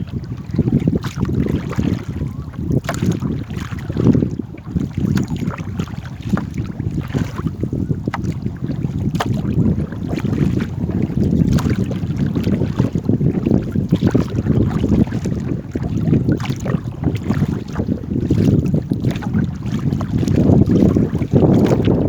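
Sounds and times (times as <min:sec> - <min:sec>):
paddling in water: 0:00.0 - 0:22.0
wind buffeting microphone: 0:00.0 - 0:22.0
small knocks and splashes: 0:01.0 - 0:04.2, 0:04.8 - 0:07.5, 0:08.1 - 0:08.4, 0:09.0 - 0:10.7, 0:11.3 - 0:13.0, 0:14.0 - 0:22.0.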